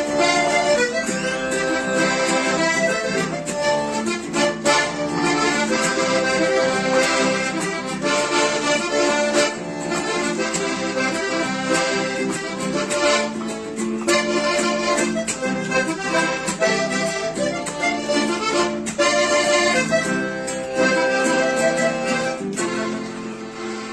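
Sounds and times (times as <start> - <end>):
accordion playing cumbia: 0.0 - 23.9.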